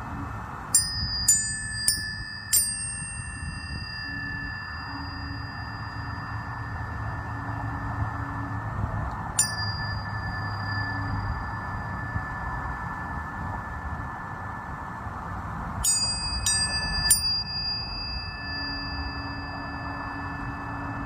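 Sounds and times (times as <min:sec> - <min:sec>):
tuning forks ringing: 0:00.0 - 0:21.0.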